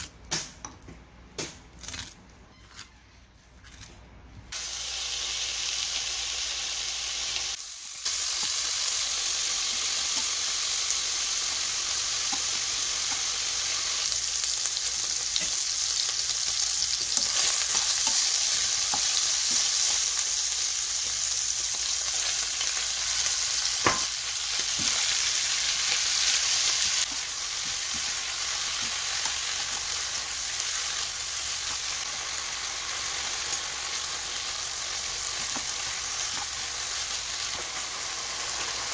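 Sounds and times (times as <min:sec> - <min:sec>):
pork sizzling in a pan: 0:04.5 - 0:38.9.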